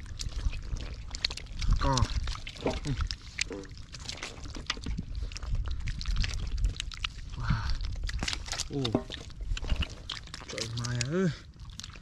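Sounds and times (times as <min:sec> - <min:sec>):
sharp wet smacks and clicks: 0:00.0 - 0:12.0
wet squelching of fish handled: 0:00.0 - 0:12.0.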